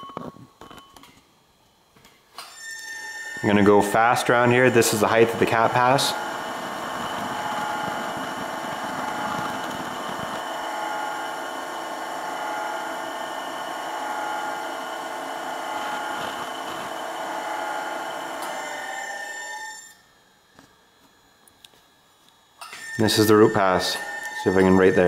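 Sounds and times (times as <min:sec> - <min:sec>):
electric motor and gear whine: 0:02.5 - 0:21.4, 0:22.2 - 0:25.0.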